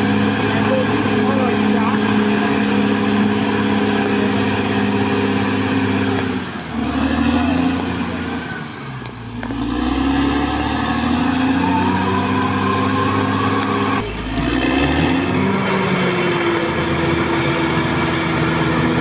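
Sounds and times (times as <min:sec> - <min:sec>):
bulldozer diesel engine under load: 0:00.0 - 0:19.0.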